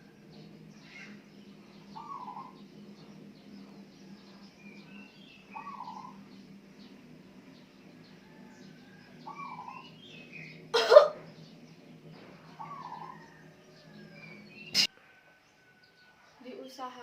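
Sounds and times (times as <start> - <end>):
steady low hum: 0.0 - 14.9
faint chirping of other birds: 0.0 - 17.0.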